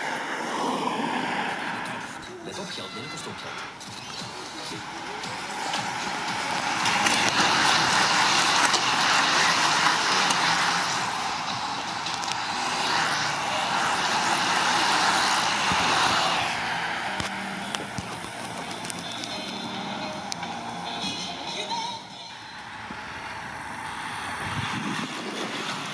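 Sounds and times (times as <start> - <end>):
bicycles passing on tarmac: 0.0 - 25.9.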